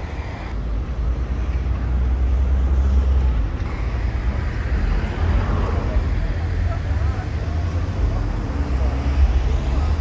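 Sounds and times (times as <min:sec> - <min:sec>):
passing cars rumble: 0:00.0 - 0:10.0.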